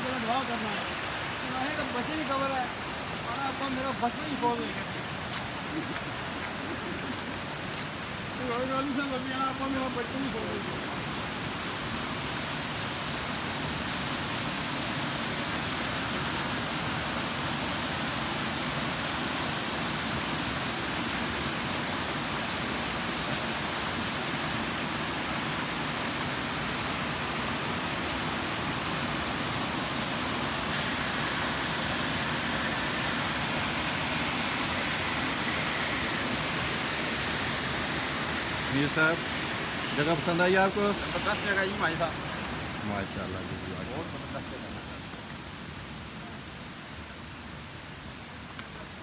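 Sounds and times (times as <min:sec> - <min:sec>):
stream rushing over cascades: 0:00.0 - 0:49.0.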